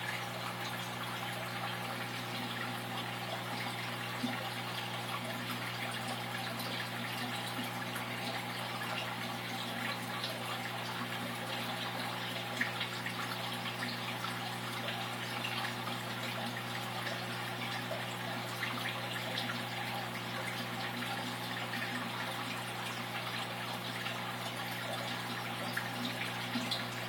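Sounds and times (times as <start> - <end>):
water trickling and splashing: 0.0 - 27.0.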